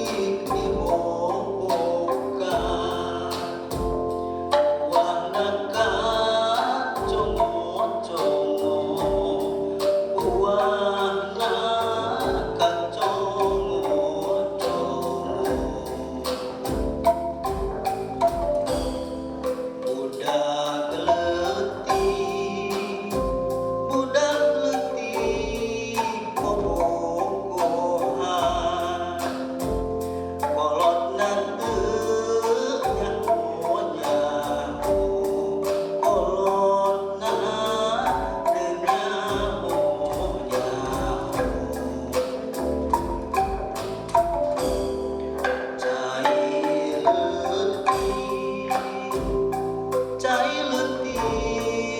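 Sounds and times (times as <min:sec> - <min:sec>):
bamboo bars struck with mallets: 0:00.0 - 0:51.9
voices singing: 0:00.0 - 0:51.9.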